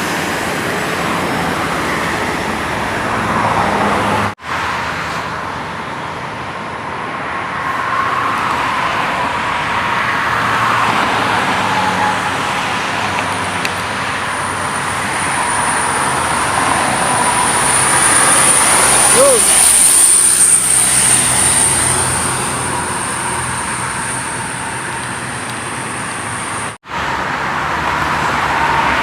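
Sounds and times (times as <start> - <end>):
highway traffic passing: 0.0 - 29.0.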